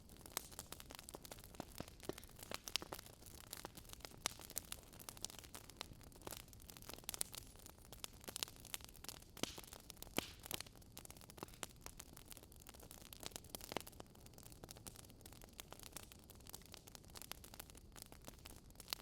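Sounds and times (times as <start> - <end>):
burning logs crackling: 0.0 - 19.0.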